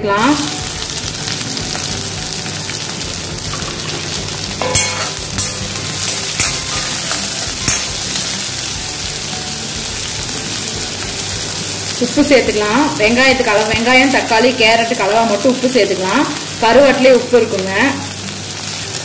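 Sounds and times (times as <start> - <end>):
shallots sizzling in hot oil: 0.0 - 19.0.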